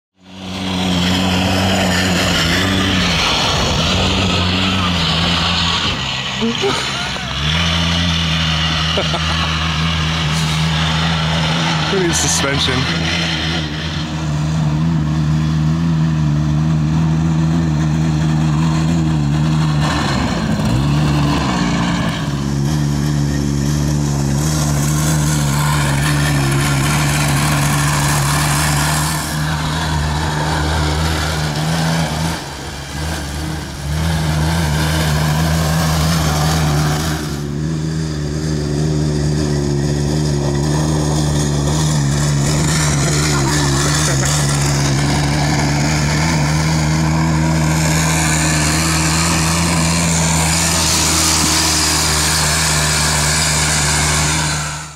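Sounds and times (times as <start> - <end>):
two-stroke engine at high revs: 0.1 - 54.9.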